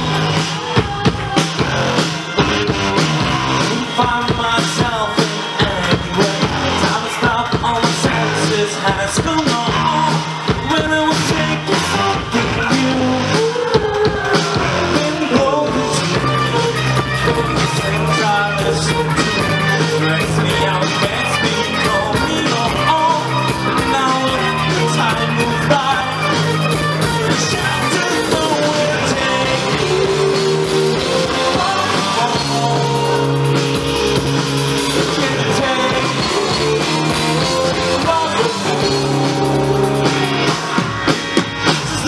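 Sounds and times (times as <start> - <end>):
person singing: 0.0 - 34.2, 34.9 - 42.0
electric guitar: 0.0 - 42.0
rock band playing: 0.0 - 42.0.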